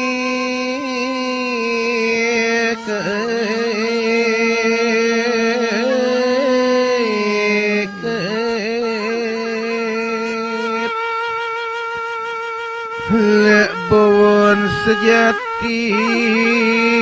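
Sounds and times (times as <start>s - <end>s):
traditional melody of held notes: 2.7s - 17.0s.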